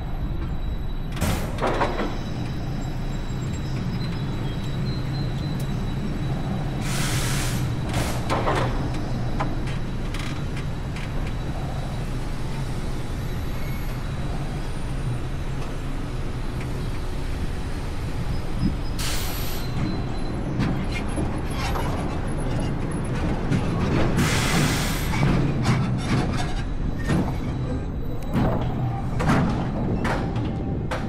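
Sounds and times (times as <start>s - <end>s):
roller coaster wheels rumbling: 0.0s - 31.0s.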